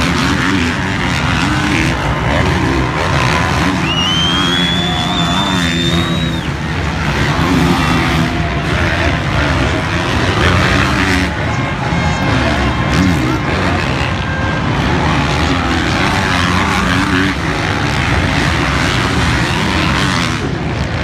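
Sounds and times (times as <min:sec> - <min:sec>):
high steady whine: 0:00.0 - 0:19.7
crowd and track noise: 0:00.0 - 0:21.0
motocross bike engines revving: 0:00.0 - 0:21.0.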